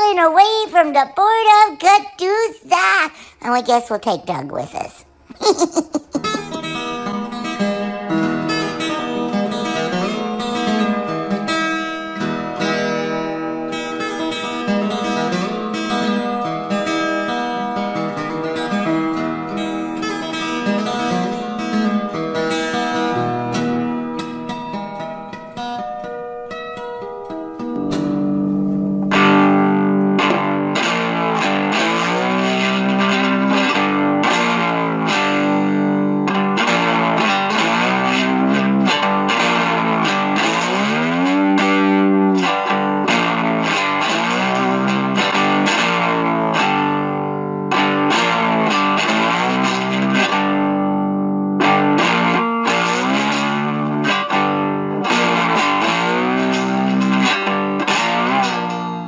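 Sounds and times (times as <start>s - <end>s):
slide electric guitar: 5.2s - 59.0s.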